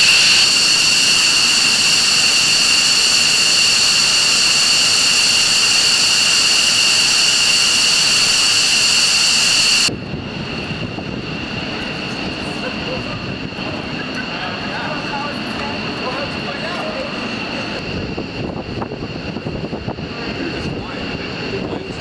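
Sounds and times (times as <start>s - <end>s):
jet engines high-pitched whine: 0.0s - 22.0s.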